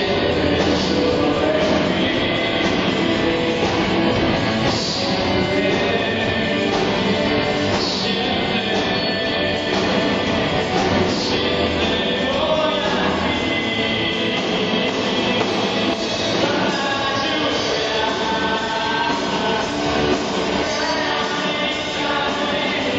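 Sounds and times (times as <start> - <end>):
rock band music with singing: 0.0 - 22.9.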